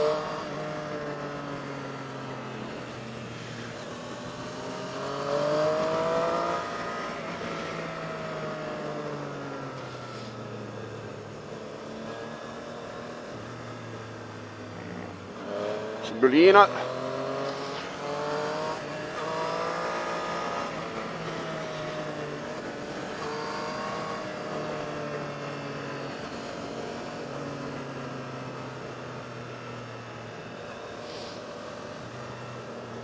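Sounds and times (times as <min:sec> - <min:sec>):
motorcycle engine: 0:00.0 - 0:33.0
road and wind noise: 0:00.0 - 0:33.0.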